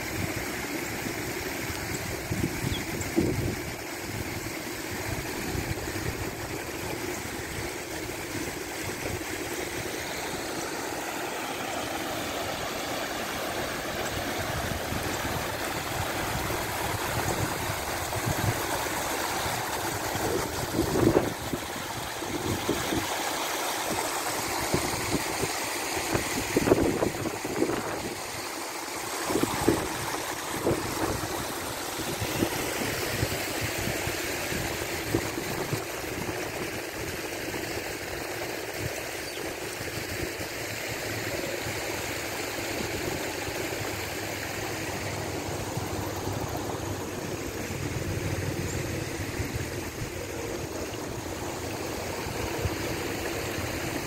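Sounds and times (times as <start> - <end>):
water spilling over rock ledges: 0.0 - 54.0.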